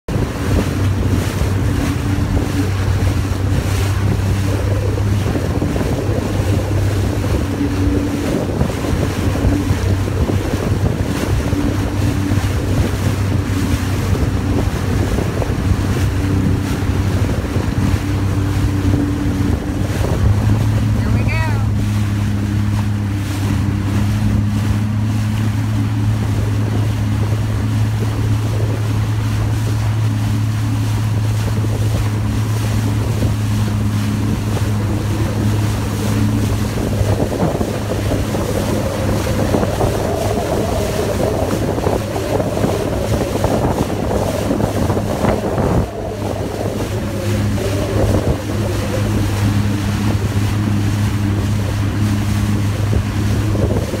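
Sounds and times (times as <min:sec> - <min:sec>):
personal watercraft engine: 0:00.0 - 0:54.0
water rushing along hull: 0:00.0 - 0:54.0
wind on microphone: 0:00.0 - 0:54.0.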